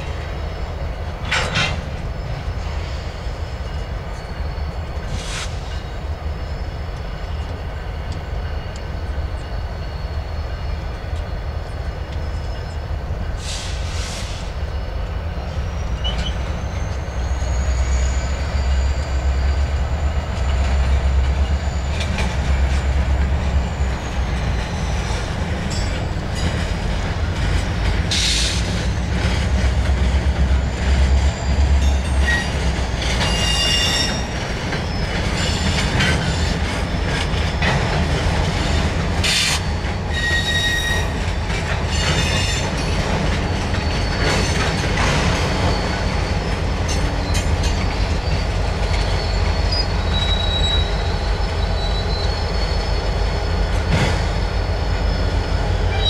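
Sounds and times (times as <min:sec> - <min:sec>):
freight train cars rumbling: 0:00.0 - 0:56.0
steel wheels squealing on rails: 0:00.0 - 0:56.0.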